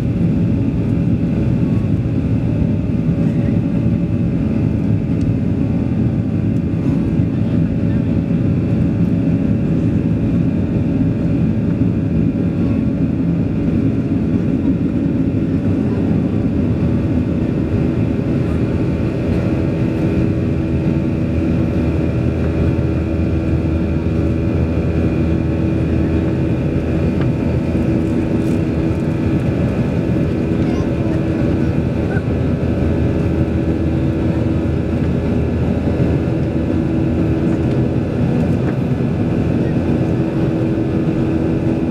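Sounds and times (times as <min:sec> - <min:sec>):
jet engines rumbling: 0:00.0 - 0:41.9
steady humming tones: 0:00.0 - 0:41.9.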